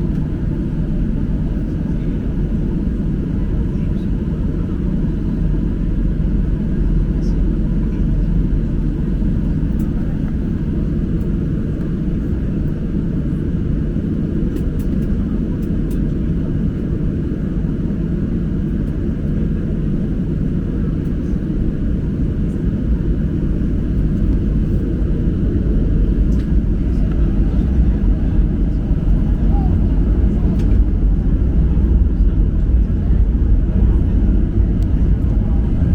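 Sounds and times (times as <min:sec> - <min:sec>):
airplane cabin engine drone: 0:00.0 - 0:35.9.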